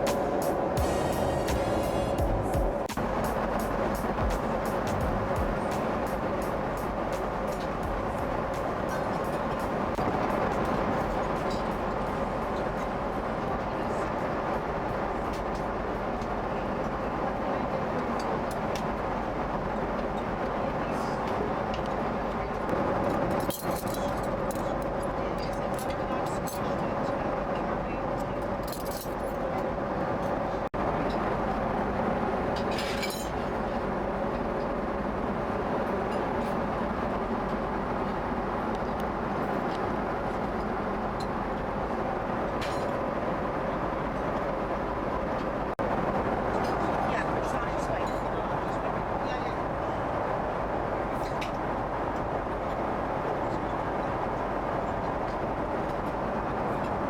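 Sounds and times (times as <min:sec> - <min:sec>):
airliner cabin rush and engine hum: 0:00.0 - 0:57.0.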